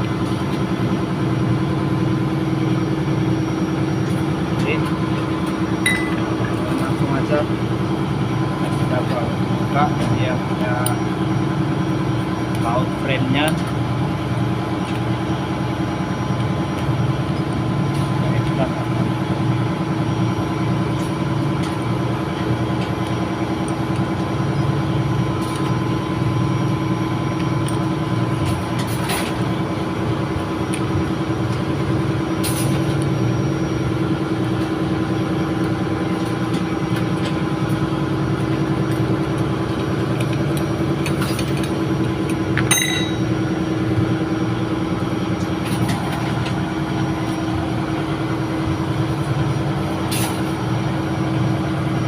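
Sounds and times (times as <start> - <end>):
ship engine hum: 0.0 - 52.0.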